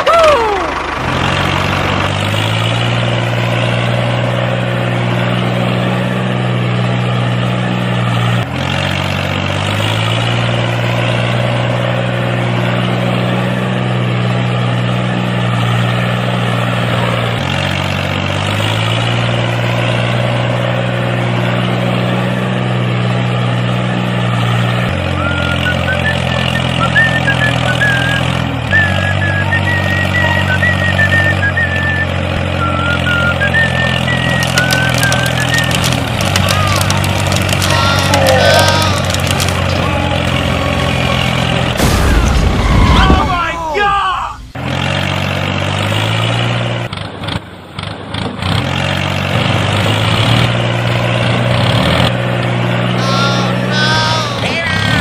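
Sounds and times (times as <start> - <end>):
tractor engine running: 0.0 - 43.6, 44.4 - 55.0.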